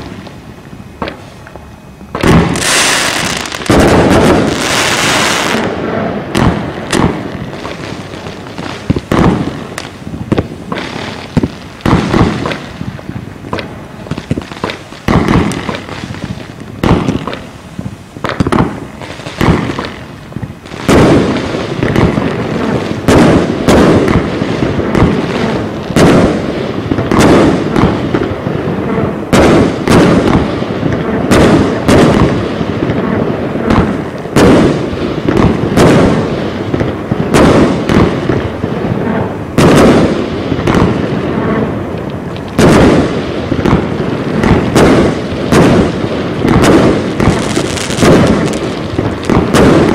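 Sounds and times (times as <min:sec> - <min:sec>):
firework shots and bursts: 0:00.0 - 0:49.9.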